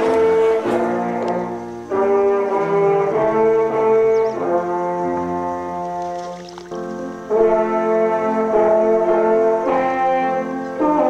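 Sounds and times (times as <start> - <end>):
brass instruments playing chords: 0.0 - 11.0.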